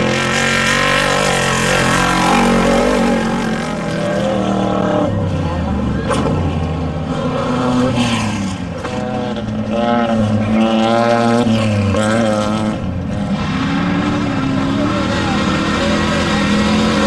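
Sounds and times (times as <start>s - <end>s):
race vehicle engines revving: 0.0s - 17.0s.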